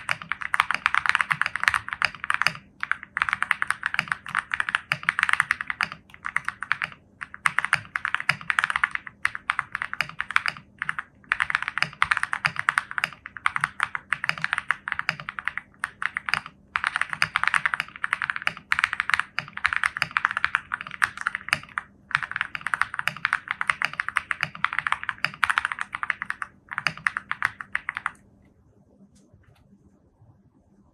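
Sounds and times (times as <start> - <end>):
fast mechanical keyboard typing: 0.0 - 28.2.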